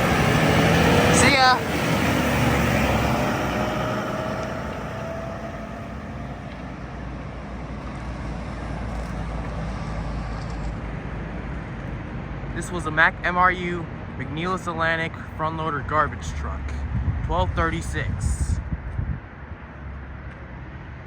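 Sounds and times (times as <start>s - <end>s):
diesel engine low hum: 0.0s - 21.0s.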